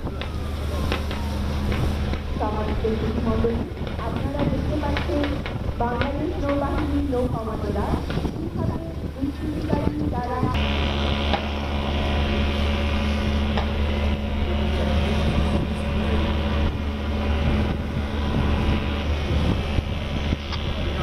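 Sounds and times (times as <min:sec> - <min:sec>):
low engine drone: 0:00.0 - 0:21.0
wind on microphone: 0:00.0 - 0:21.0.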